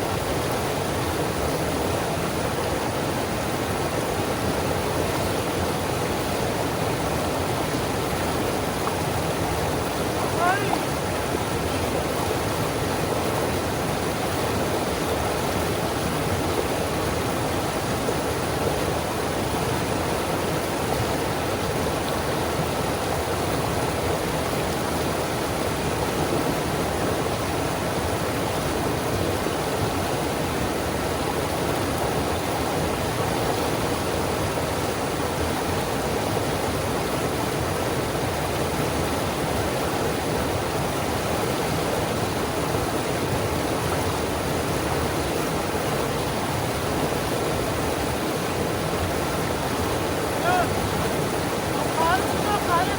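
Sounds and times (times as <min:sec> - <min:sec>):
river rapids rushing: 0:00.0 - 0:52.9.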